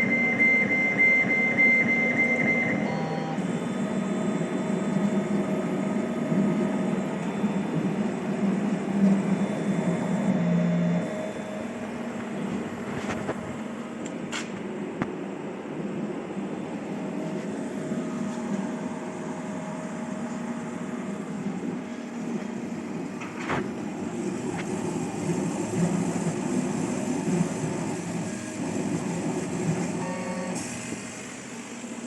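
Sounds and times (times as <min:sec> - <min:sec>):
laser cutter humming: 0:00.0 - 0:32.0.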